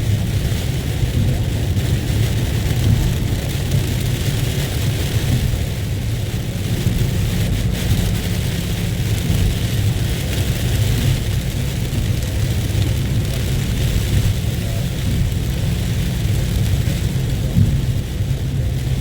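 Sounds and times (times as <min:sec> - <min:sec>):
deep rumble: 0:00.0 - 0:19.0
heavy rain falling: 0:00.0 - 0:19.0.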